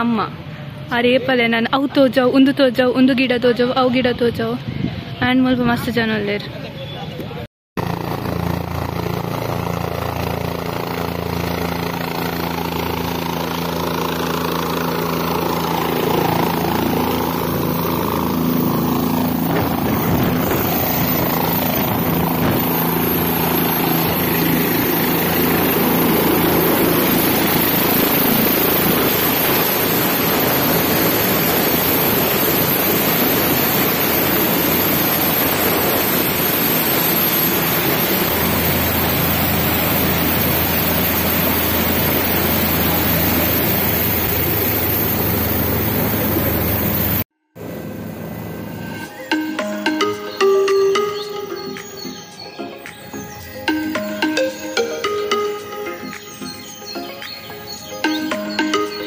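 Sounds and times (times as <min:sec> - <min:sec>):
helicopter engine and rotor: 0:07.8 - 0:59.0.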